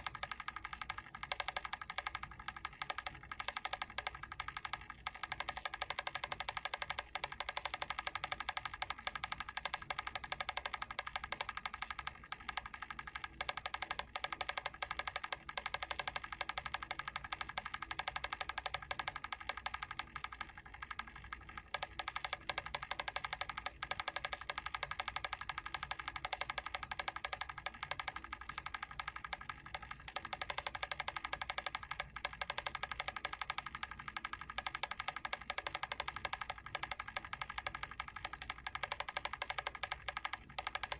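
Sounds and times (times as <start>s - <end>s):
timer switch ticking: 0.0s - 40.9s.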